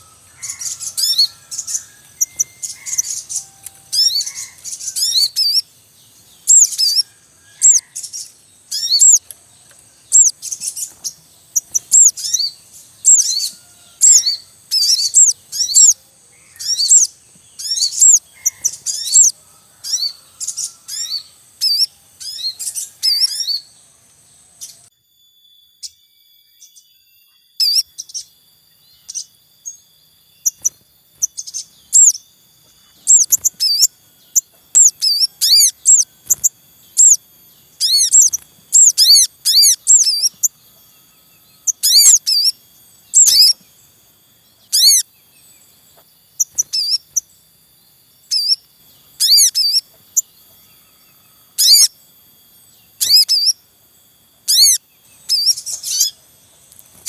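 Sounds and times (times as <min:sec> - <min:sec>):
birds chirping high and short: 0:00.0 - 0:57.0.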